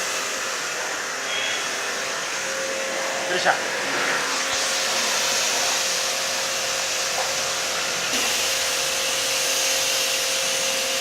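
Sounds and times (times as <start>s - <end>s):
cleaning machine motor whining: 0.0s - 11.0s.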